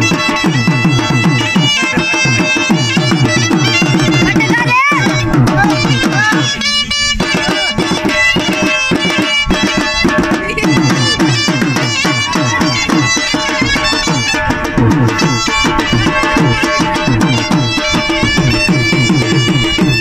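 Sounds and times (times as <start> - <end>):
dhol drum fast rhythm: 0.0 - 20.0
wind instrument wavering melody: 0.0 - 20.0.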